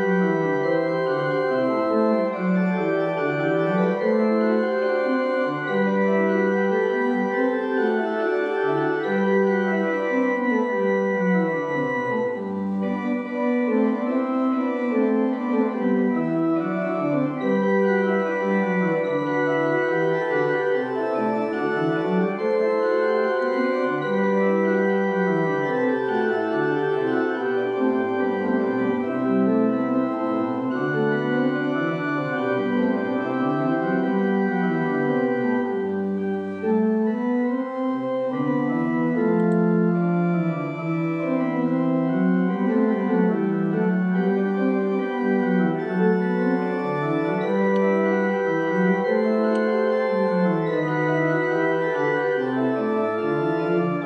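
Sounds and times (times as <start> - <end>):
organ music: 0.0 - 54.0.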